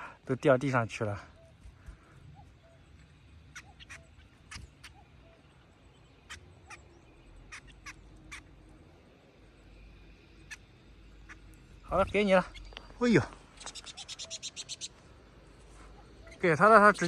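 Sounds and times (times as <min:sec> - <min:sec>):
small birds chip calls: 0:00.0 - 0:17.0.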